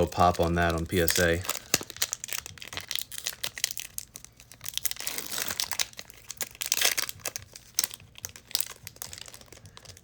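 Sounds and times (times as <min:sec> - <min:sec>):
card pack wrapper crinkling: 0:00.0 - 0:10.0.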